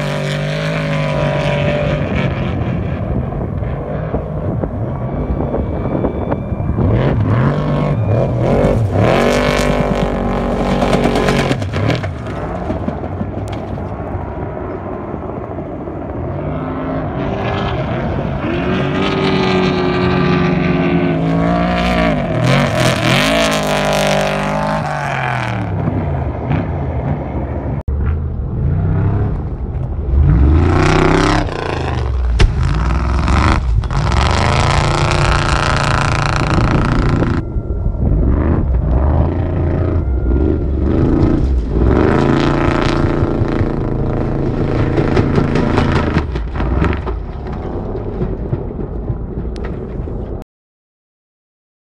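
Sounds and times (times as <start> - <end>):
truck engines revving past: 0.0 - 50.4.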